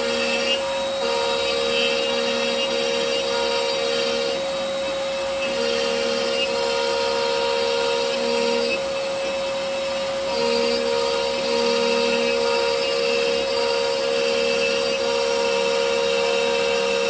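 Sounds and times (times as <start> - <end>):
router bit cutting wood: 0.0 - 17.0
router spindle whining: 0.0 - 17.0.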